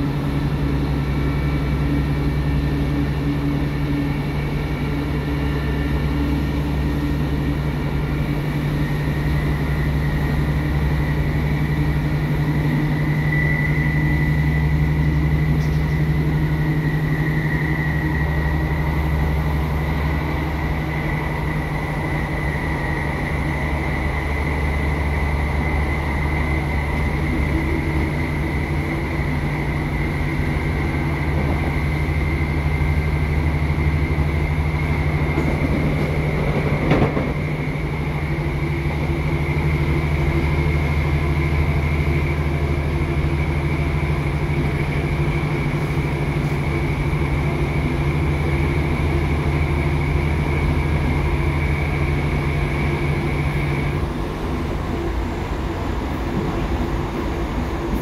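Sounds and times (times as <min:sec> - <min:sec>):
train diesel engine drone: 0:00.0 - 0:58.0
thin high whine: 0:01.0 - 0:54.2.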